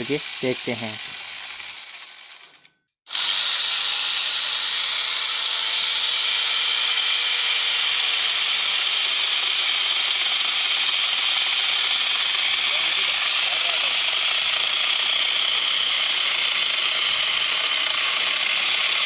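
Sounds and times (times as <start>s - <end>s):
chainsaw cutting branch: 0.0s - 19.0s.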